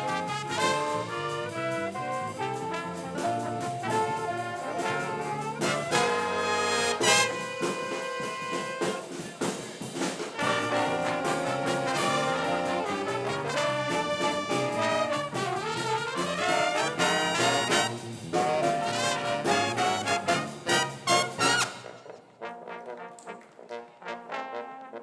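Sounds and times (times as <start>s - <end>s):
brass band melody: 0.0s - 25.0s.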